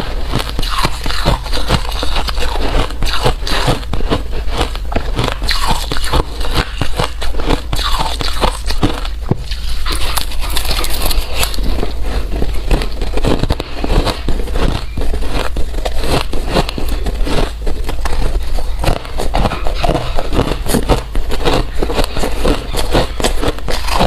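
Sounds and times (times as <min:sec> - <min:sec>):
ice crunching being chewed: 0:00.0 - 0:24.0.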